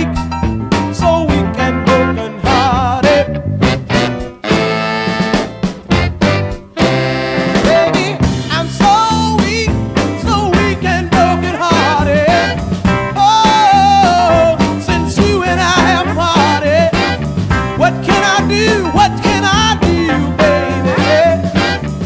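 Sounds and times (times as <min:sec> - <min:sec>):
soul band playing: 0:00.0 - 0:22.0.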